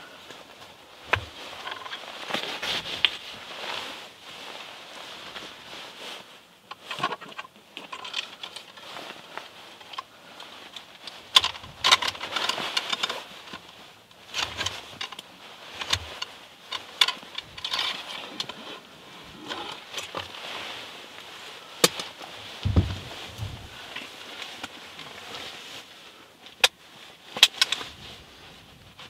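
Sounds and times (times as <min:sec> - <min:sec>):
rustling and crunching: 0:00.0 - 0:29.0
sharp crackles and scrapes: 0:00.0 - 0:29.0.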